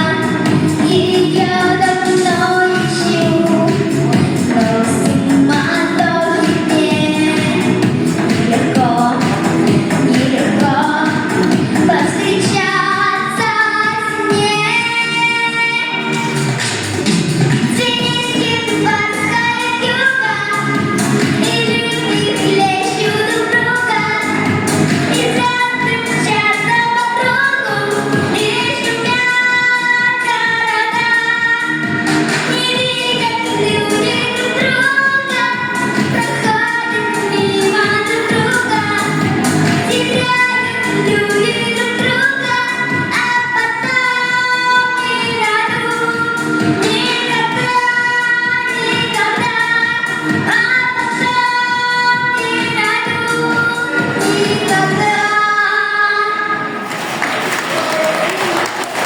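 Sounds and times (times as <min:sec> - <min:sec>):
woman singing pop song: 0:00.0 - 0:56.8
backing track: 0:00.0 - 0:59.0.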